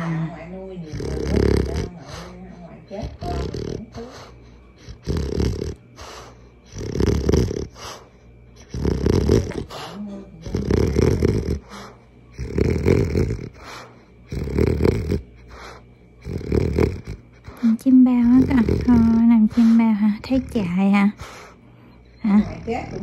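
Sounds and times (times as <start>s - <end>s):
dog snoring: 0.0s - 23.0s.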